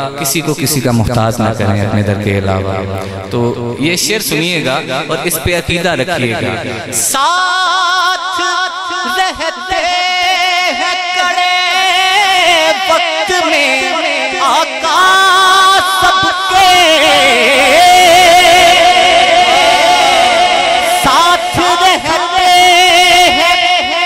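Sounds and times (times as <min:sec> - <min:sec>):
man singing with ornamented notes: 0:03.0 - 0:24.0.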